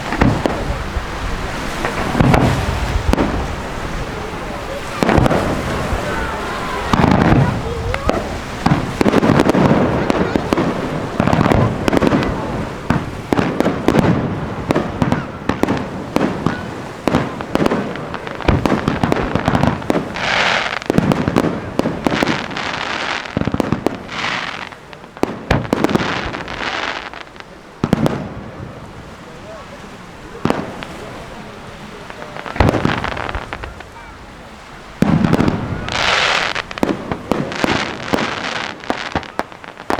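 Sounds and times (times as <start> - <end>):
firework bangs: 0.0 - 39.9
firework crackling: 0.0 - 39.9.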